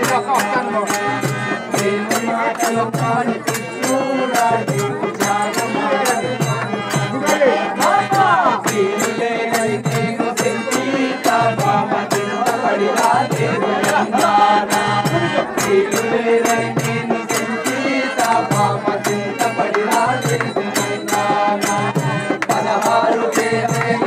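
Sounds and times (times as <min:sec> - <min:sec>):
rattling percussion beat: 0:00.0 - 0:24.0.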